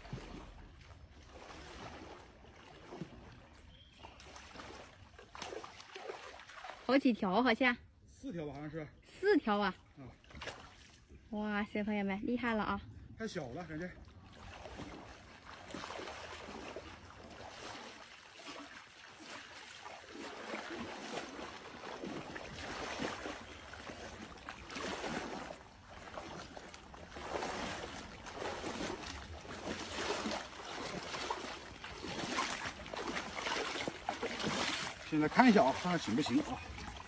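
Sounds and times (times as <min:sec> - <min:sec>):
water sloshing and splashing: 0:00.0 - 0:07.8, 0:09.1 - 0:37.0.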